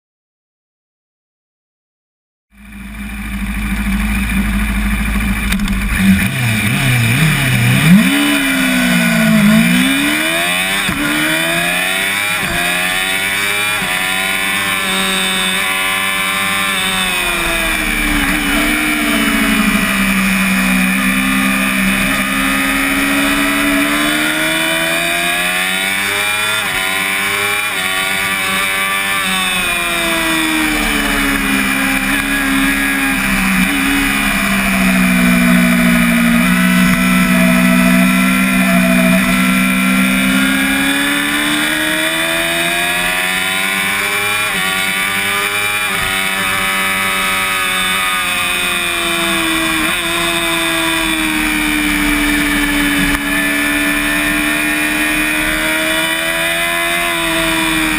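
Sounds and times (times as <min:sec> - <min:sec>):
motorcycle engine revving: 0:02.5 - 0:57.9
quick gear shifts: 0:03.6 - 0:57.9.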